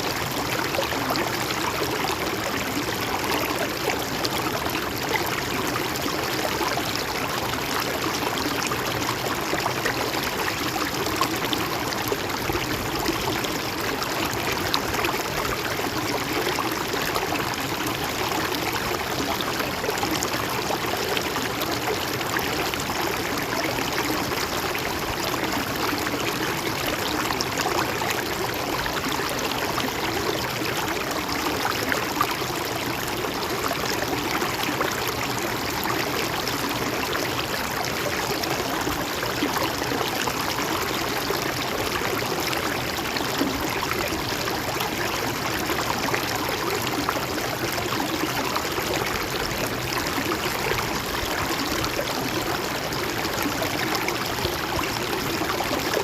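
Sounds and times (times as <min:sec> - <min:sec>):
stream trickling and gurgling: 0:00.0 - 0:56.0.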